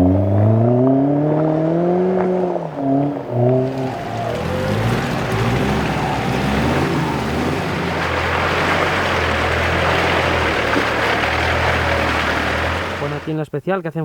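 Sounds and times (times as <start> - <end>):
car engine running: 0.0 - 13.3
wind and tyre noise: 0.0 - 13.3.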